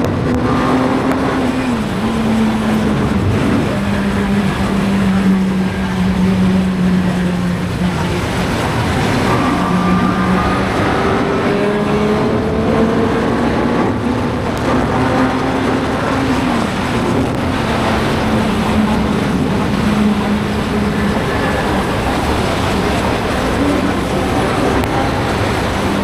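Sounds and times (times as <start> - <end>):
loud wind rush: 0.0 - 26.0
motorcycle engine revving: 0.0 - 26.0.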